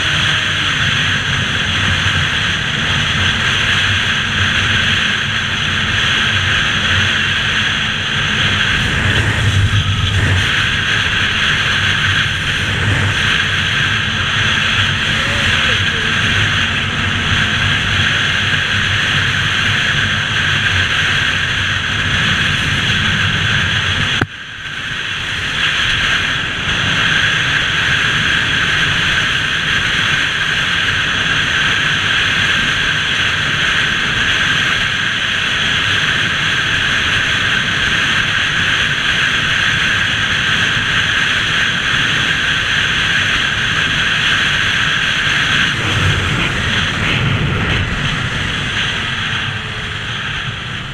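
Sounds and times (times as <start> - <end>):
motorbike engine: 0.0 - 50.9
wind rush: 0.0 - 50.9.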